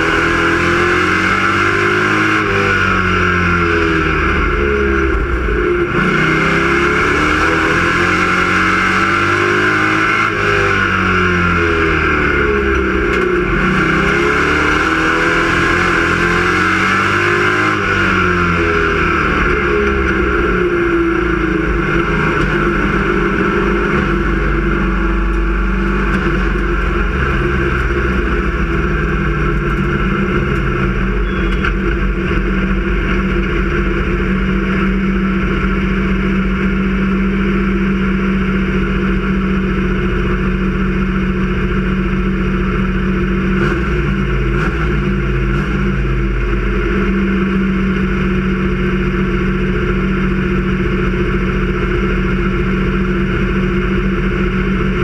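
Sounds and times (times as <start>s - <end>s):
race car engine droning: 0.0s - 55.0s.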